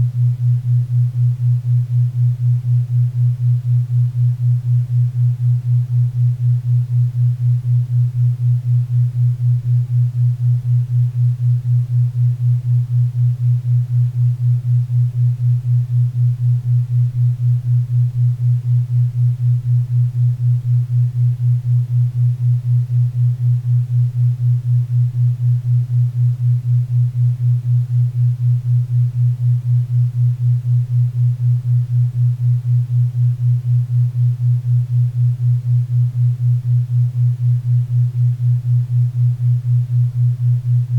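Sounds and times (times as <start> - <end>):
low hum pulsing: 0.0 - 40.9.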